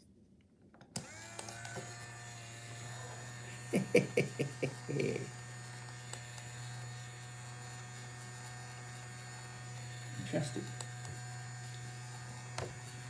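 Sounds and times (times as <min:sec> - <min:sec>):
small motor humming: 0:01.0 - 0:13.0.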